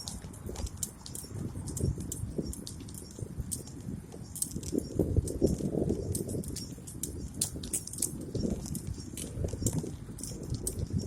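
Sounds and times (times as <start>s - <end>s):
bicycle rattling and clicking: 0.0s - 11.0s
wind rumble on microphone: 0.0s - 11.0s.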